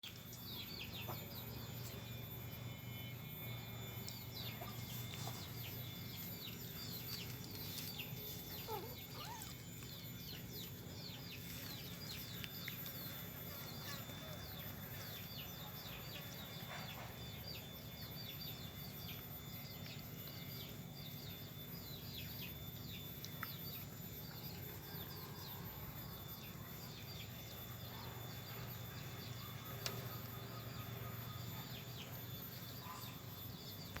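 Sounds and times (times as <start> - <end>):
small birds chirping: 0.0 - 34.0
steady low hum: 0.0 - 34.0.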